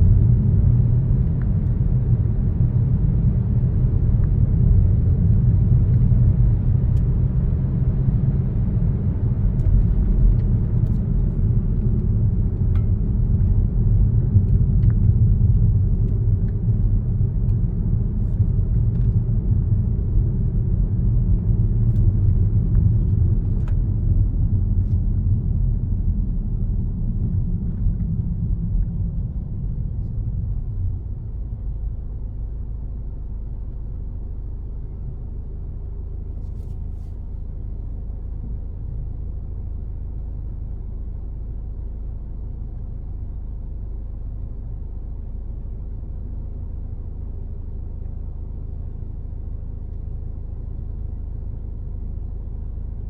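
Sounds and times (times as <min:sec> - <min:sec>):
car road rumble: 0:00.0 - 0:53.0
low car cabin hum: 0:00.0 - 0:53.0.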